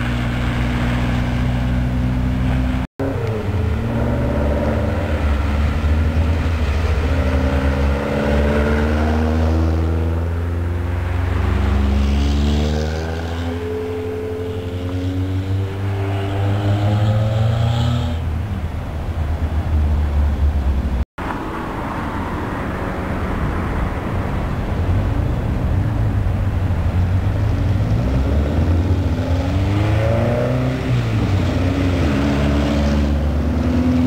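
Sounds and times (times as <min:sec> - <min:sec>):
sports cars driving past: 0:00.0 - 0:34.0.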